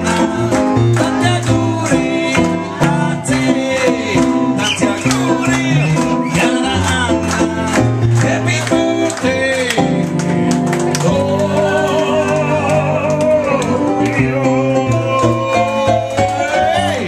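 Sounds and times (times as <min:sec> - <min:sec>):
person singing: 0:00.0 - 0:10.2, 0:10.8 - 0:17.0.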